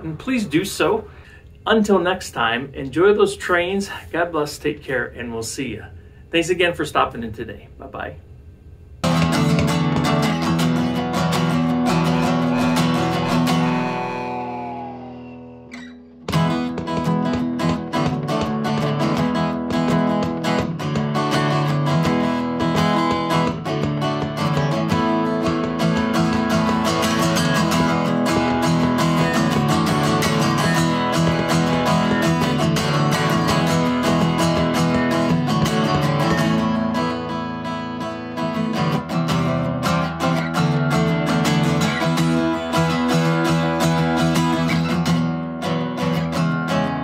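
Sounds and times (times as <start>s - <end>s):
instrumental guitar music: 9.0s - 47.0s.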